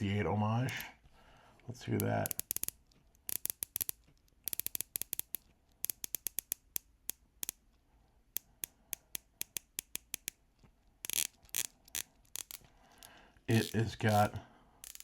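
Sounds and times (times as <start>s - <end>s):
watch bezel clicking: 1.9s - 15.0s.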